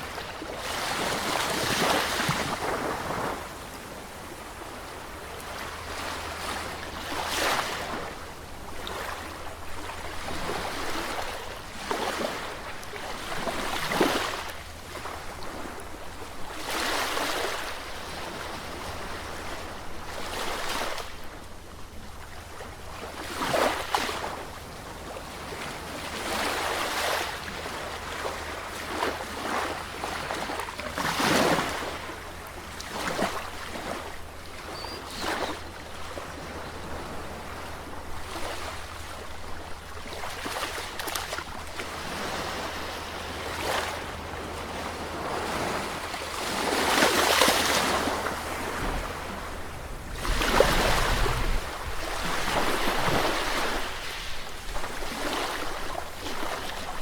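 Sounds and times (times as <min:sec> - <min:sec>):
sea waves breaking: 0:00.0 - 0:15.8, 0:25.1 - 0:57.0.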